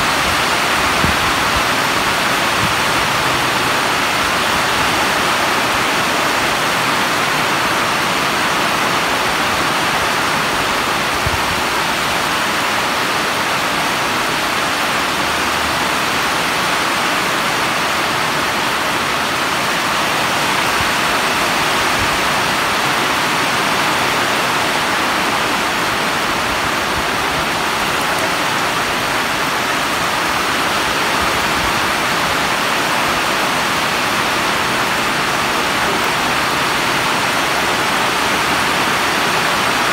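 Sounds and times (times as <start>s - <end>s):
heavy rain on roofs: 0.0s - 39.9s.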